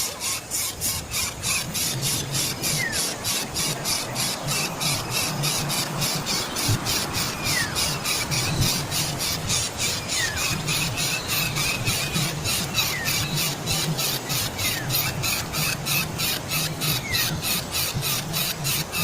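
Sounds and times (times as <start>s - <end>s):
fast pulsing chirr: 0.0s - 19.0s.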